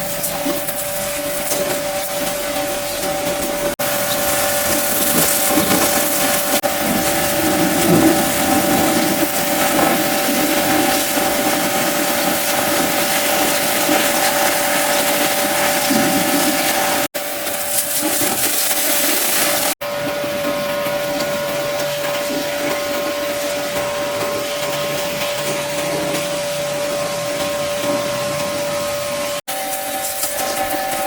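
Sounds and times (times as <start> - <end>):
pressure washer water jet hiss: 0.0 - 19.8, 21.6 - 31.0
pressure washer motor whine: 0.0 - 31.0.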